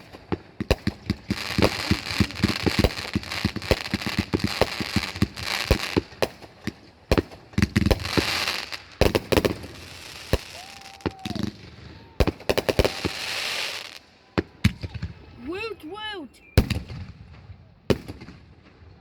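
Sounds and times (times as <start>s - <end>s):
fireworks popping and crackling: 0.0s - 15.6s, 17.9s - 18.9s.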